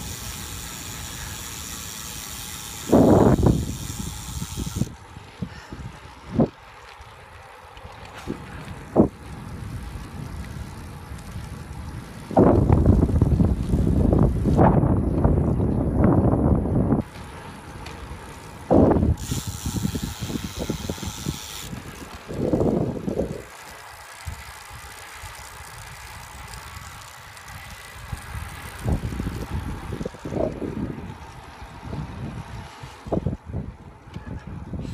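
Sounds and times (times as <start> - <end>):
wind buffeting microphone: 0.0 - 7.3, 8.0 - 34.9.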